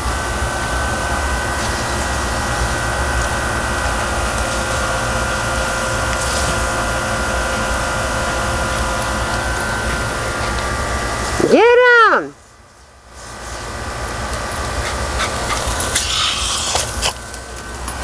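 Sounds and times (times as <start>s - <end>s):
machine hum with high whine: 0.0s - 18.0s
sprinklers spraying water: 1.1s - 12.0s, 13.0s - 18.0s.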